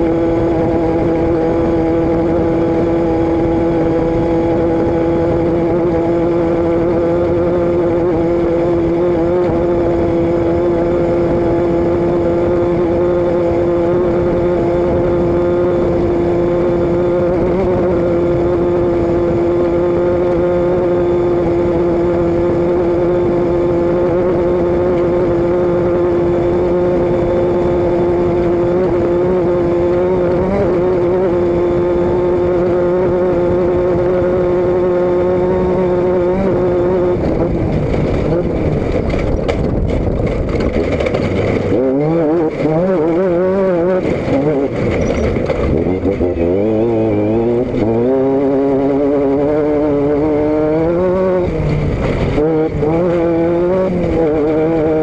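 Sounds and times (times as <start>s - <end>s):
road or wind noise: 0.0s - 55.0s
vehicle engine droning: 0.0s - 55.0s.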